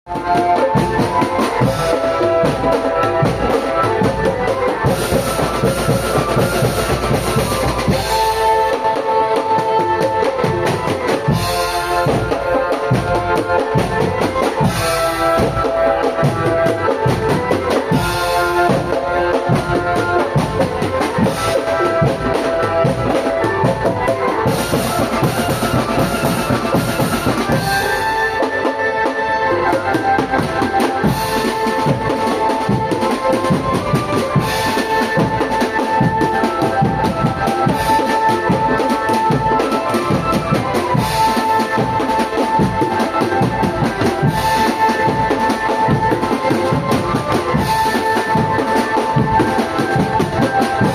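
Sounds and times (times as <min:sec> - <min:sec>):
melody of held notes: 0:00.1 - 0:50.9
snare drum strokes: 0:00.1 - 0:50.9.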